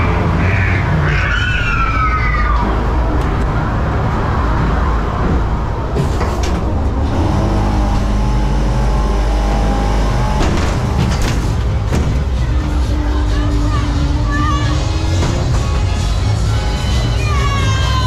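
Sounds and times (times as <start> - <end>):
ride car rumbling along track: 0.0 - 18.0.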